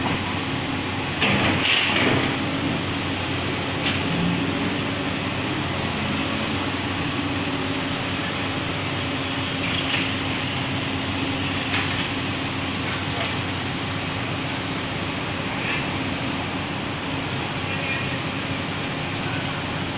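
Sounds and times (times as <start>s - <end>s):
diesel engine humming: 0.0s - 19.9s.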